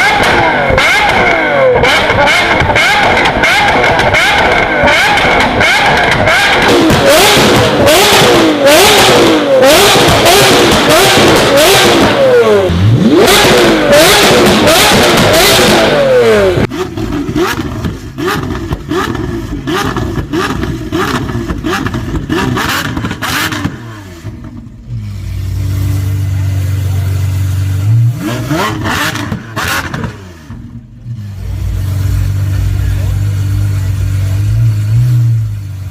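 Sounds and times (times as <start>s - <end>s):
car engine revving: 0.0s - 35.9s
car engine idling: 0.1s - 35.9s.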